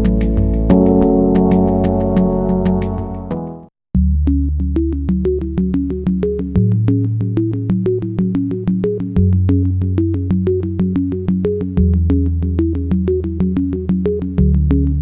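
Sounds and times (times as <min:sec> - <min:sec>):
synthesizer arpeggio: 0:00.0 - 0:03.6, 0:04.4 - 0:14.8
sustained bass notes: 0:00.0 - 0:15.0.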